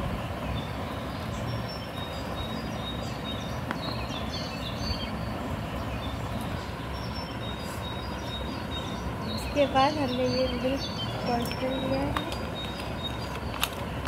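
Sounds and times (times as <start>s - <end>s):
background rumble and hiss: 0.0s - 14.0s
small birds chirping: 0.0s - 14.0s.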